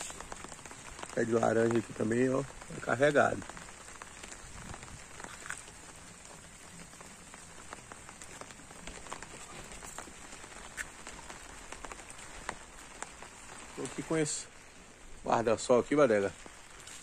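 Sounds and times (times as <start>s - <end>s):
drops tapping on umbrella: 0.0s - 14.2s
drizzle patter: 0.0s - 17.0s.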